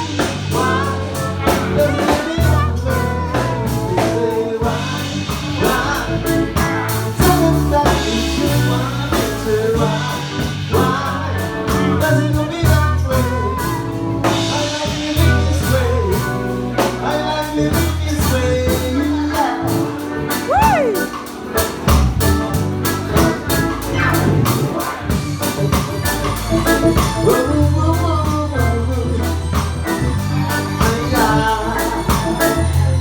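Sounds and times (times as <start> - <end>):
bass line: 0.0 - 33.0
drum kit groove: 0.0 - 33.0.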